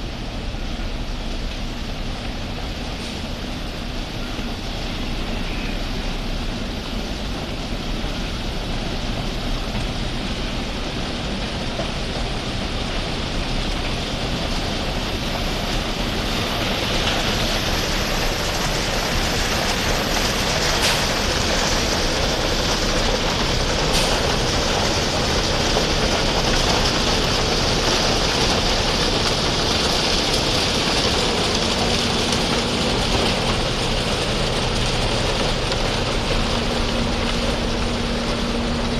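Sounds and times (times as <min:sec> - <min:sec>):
railway construction machine running: 0:00.0 - 0:38.9.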